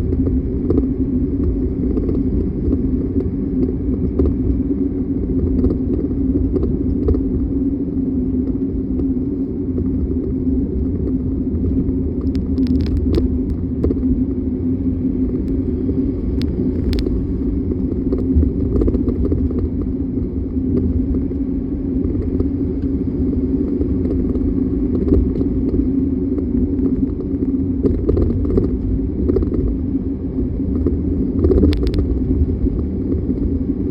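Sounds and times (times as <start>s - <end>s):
van engine rumble: 0.0s - 33.9s.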